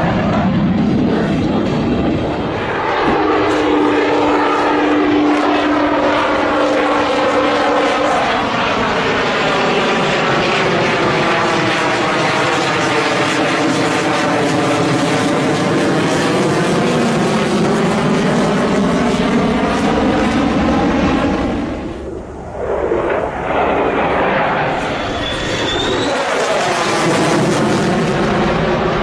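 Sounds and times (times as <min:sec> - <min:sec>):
fighter jet roaring overhead: 0:00.0 - 0:29.0.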